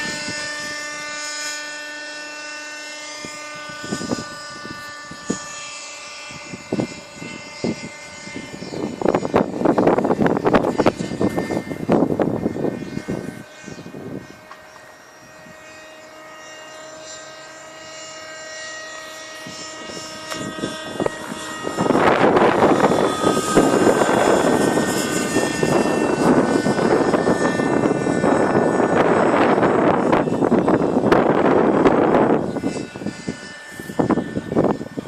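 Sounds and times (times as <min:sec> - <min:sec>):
model helicopter engine whine: 0:00.0 - 0:35.0.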